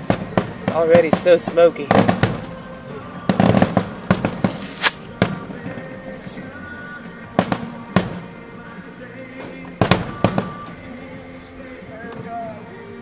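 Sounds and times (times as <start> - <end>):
fireworks bangs: 0.0 - 11.4
music playing: 0.0 - 13.0.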